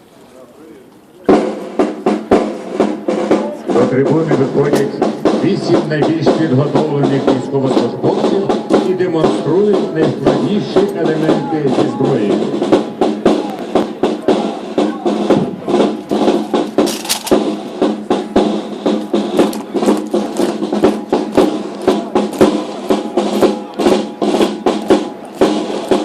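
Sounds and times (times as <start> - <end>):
snare drum strikes and rolls: 1.3 - 26.0.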